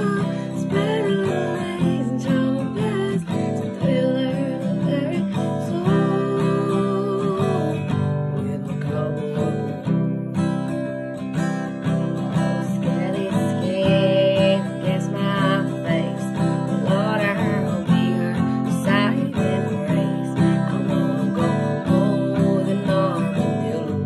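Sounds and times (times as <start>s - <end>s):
acoustic guitar strumming: 0.0s - 24.0s
person singing: 0.0s - 24.0s.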